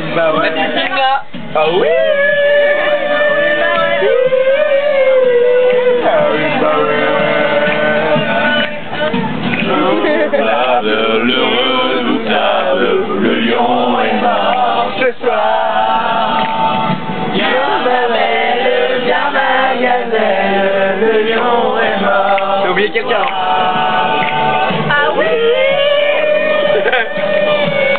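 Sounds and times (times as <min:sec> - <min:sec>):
group singing a cappella: 0:01.6 - 0:27.9.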